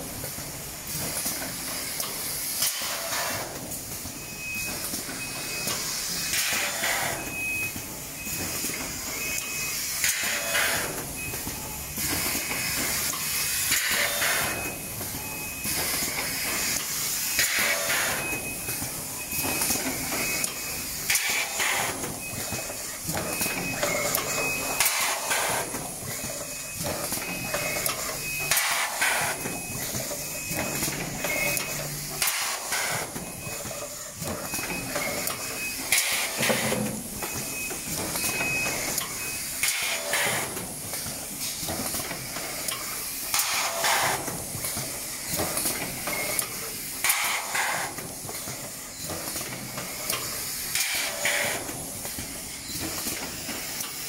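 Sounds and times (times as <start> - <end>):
machine running noise: 0.0 - 54.0
pneumatic air hiss: 0.9 - 3.7, 4.8 - 7.3, 8.3 - 11.0, 11.9 - 14.8, 15.6 - 54.0.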